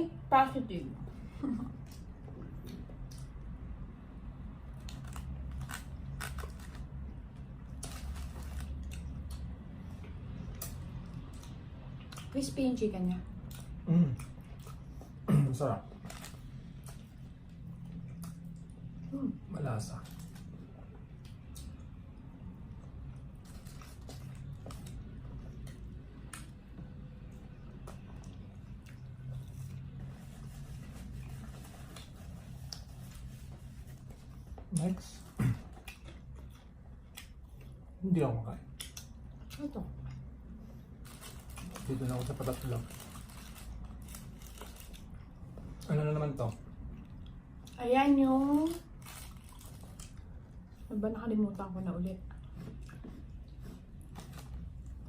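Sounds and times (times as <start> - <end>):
crunching and chewing food: 4.6 - 12.6, 13.4 - 50.9, 52.2 - 55.0.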